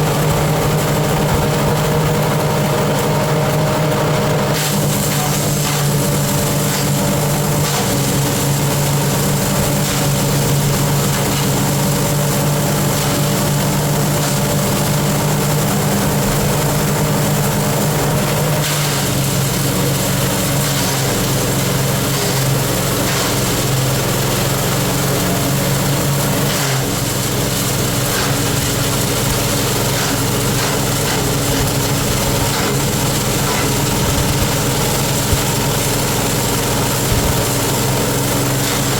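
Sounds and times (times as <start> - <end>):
chopper machine engine running: 0.0 - 38.9.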